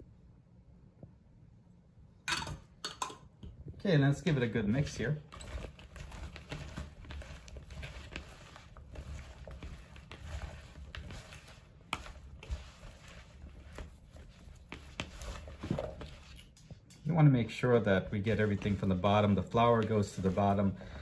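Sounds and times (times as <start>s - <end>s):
rustling and squishing in a bowl: 2.6s - 21.0s.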